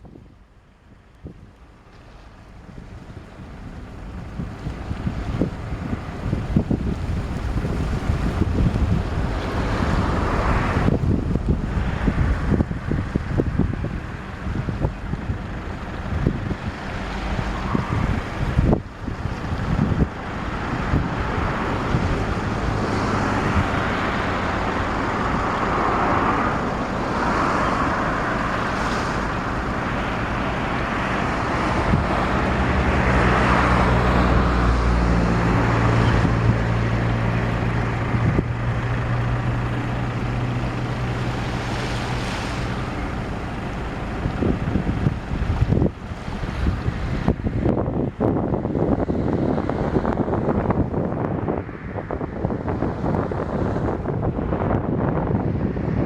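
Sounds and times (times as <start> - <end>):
motor engine low hum: 0.0 - 56.0
outdoor noise: 0.0 - 56.0
wind buffeting microphone: 0.0 - 56.0.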